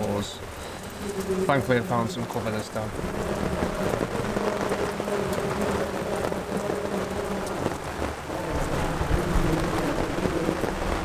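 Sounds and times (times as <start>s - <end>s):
heavy rain on street and awning: 0.0s - 11.0s.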